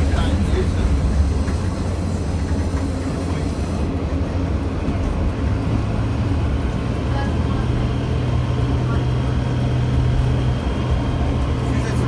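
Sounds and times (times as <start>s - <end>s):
engine hum: 0.0s - 12.0s
railmotor rumbling along track: 0.0s - 12.0s
wheels on track: 0.0s - 12.0s.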